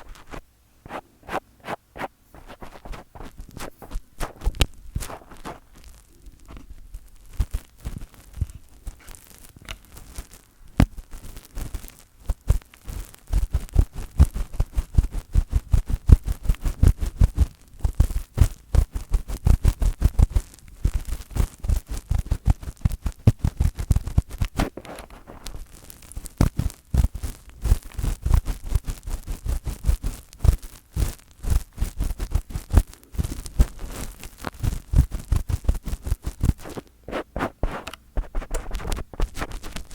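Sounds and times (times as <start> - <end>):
fingertips rubbing on microphone: 0.0 - 39.9.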